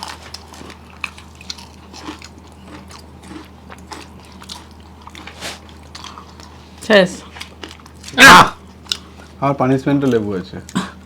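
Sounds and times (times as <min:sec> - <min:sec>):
chewing and mouth noises: 0:00.0 - 0:09.4.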